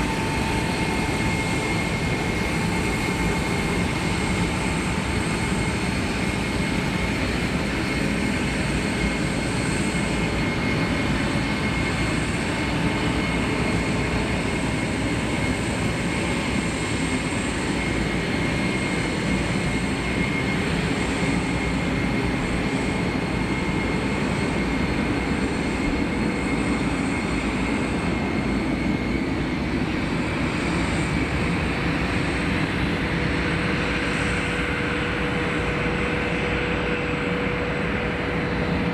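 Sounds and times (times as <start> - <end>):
jet engines roaring with turbine whine: 0.0 - 38.9.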